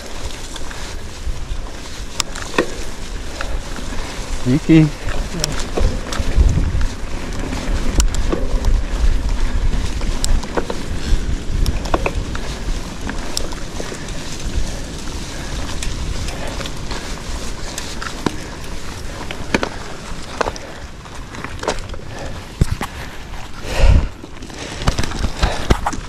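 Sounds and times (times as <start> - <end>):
bicycle tyre and frame rattle: 0.0 - 26.0
wind rumble on microphone: 0.0 - 26.0.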